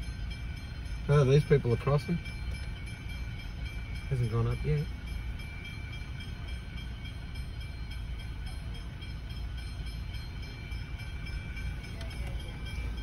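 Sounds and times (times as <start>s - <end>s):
faint steady high tones: 0.0s - 13.0s
low rumble inside a car: 0.0s - 13.0s.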